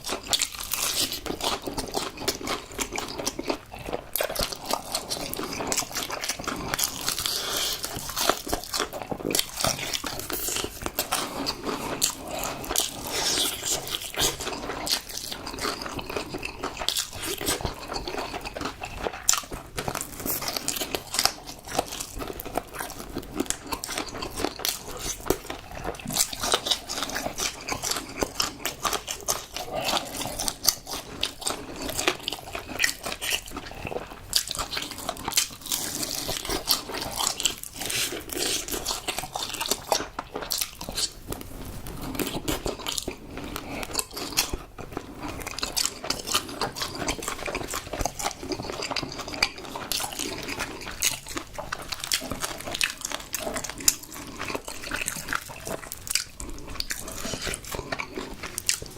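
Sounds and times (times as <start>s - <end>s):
crunching and chewing fried chicken: 0.0s - 58.9s.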